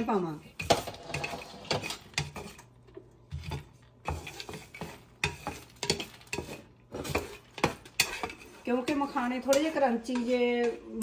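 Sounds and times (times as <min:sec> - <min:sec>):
spatula scraping frying pan: 0:00.5 - 0:10.7.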